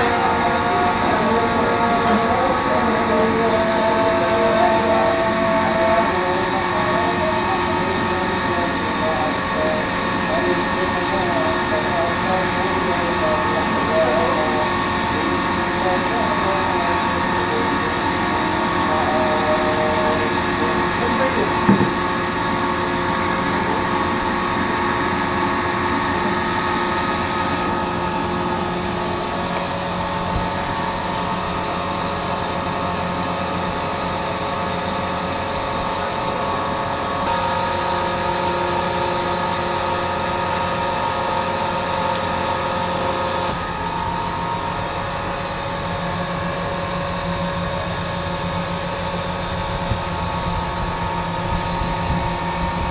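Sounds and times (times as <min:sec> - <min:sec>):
mechanical drone: 0:00.0 - 0:52.9.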